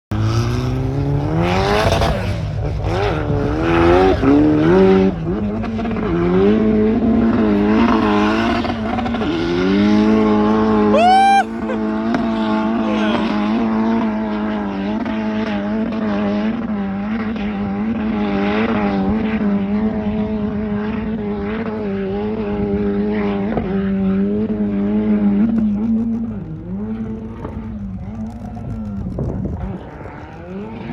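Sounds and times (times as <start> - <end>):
vehicle engine revving: 0.1 - 10.9, 11.5 - 30.9.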